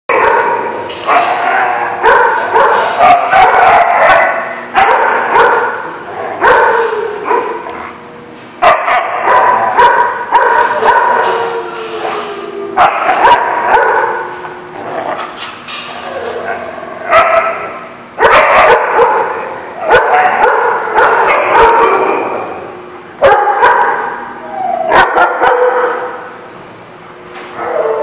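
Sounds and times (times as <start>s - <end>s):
dogs barking while play-fighting: 0.1s - 26.4s.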